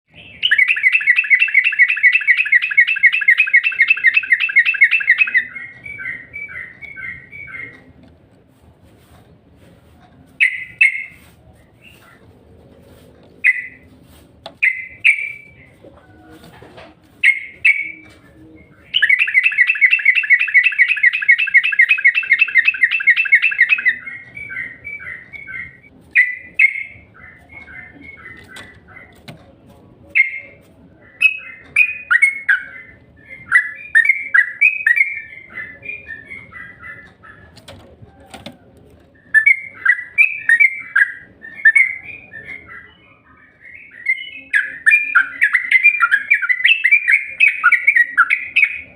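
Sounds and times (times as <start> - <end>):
bird chirping and trilling: 0.1 - 7.9, 10.4 - 11.2, 13.4 - 13.9, 14.6 - 15.8, 17.2 - 29.3, 30.1 - 37.7, 39.2 - 48.9.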